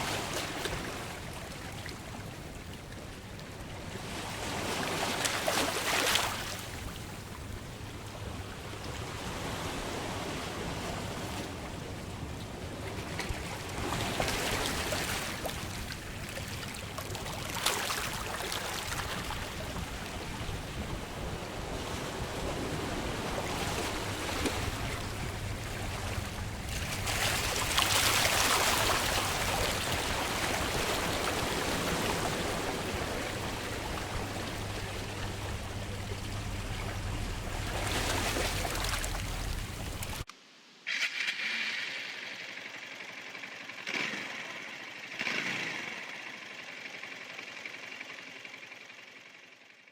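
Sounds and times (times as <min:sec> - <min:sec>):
ocean waves breaking on shore: 0:00.0 - 0:40.3.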